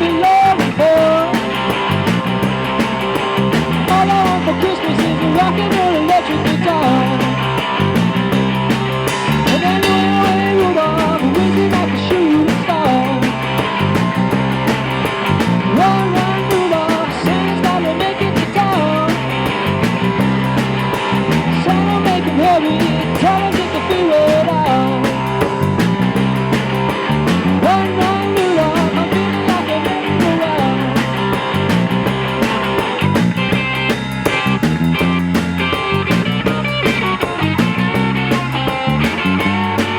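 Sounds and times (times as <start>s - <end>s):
bass and drum beat: 0.0s - 39.9s
lead electric guitar: 0.0s - 39.9s.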